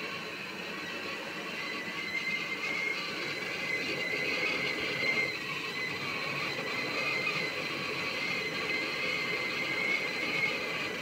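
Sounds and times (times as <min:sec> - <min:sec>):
kettle whistling: 0:00.0 - 0:11.0.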